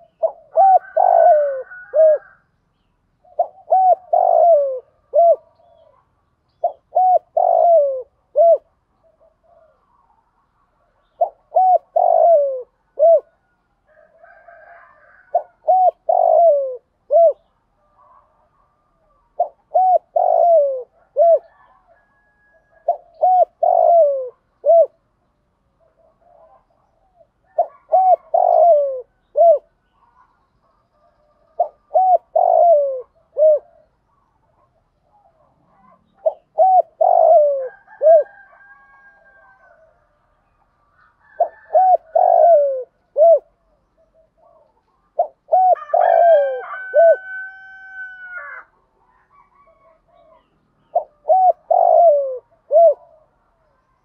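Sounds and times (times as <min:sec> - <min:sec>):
dove cooing: 0:00.0 - 0:02.5, 0:03.2 - 0:25.2, 0:25.8 - 0:54.0.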